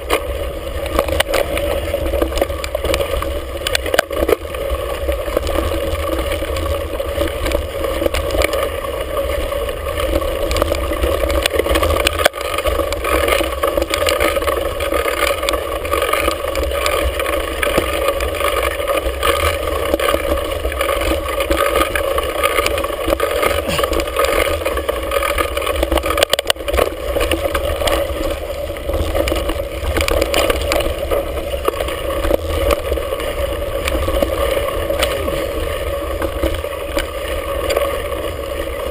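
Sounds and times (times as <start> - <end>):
wind and tyres rumbling: 0.0 - 38.9.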